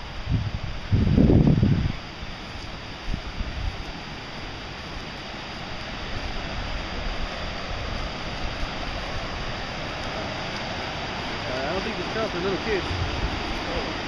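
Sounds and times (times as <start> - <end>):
river water rushing: 1.8 - 14.0.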